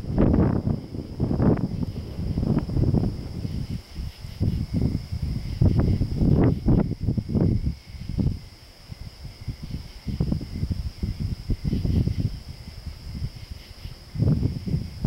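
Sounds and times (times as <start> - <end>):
night insects chirring: 0.0 - 15.0
wind buffeting microphone: 0.0 - 15.0.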